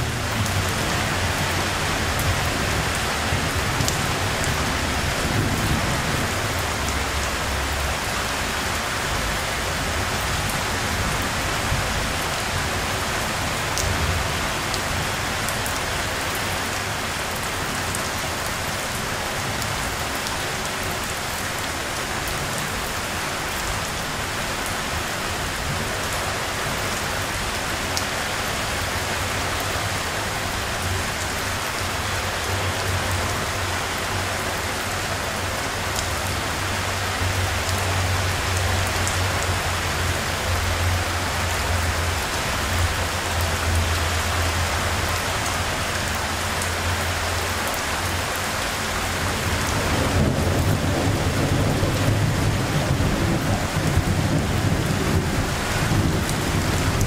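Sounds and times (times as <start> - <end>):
heavy rain hissing on surfaces: 0.0 - 57.0.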